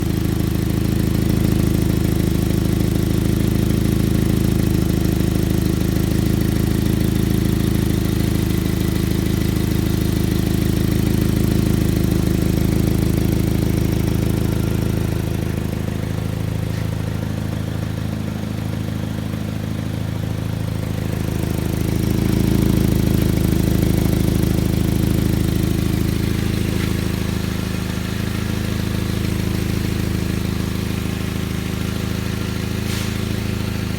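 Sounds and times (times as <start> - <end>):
engine idling with exhaust leak: 0.0 - 33.9.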